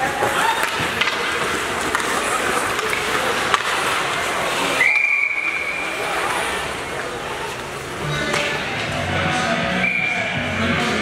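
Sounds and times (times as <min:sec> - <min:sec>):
ice rink noise: 0:00.0 - 0:11.0.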